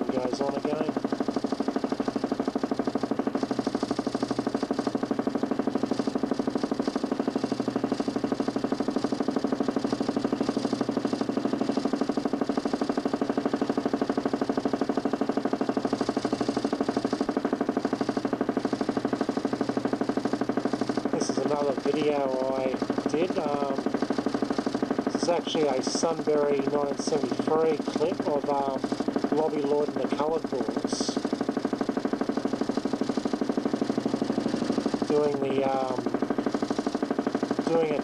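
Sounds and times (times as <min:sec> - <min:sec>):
motor humming with fast pulsing: 0:00.0 - 0:38.0.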